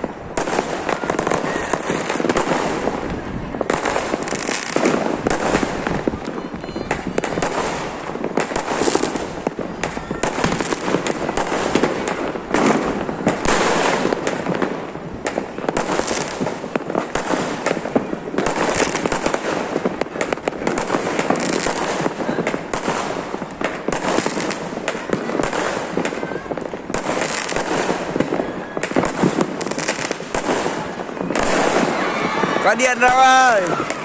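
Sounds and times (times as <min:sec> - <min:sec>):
fireworks crackling and banging: 0:00.0 - 0:34.0.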